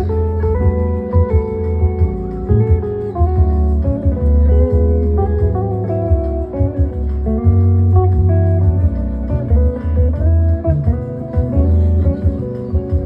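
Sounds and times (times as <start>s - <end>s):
deep bass line: 0.0s - 13.0s
plucked guitar notes: 0.0s - 13.0s.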